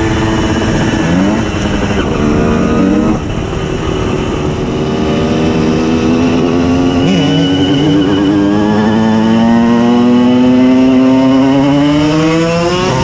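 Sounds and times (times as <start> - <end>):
two-stroke moped engine revving: 0.0 - 13.0.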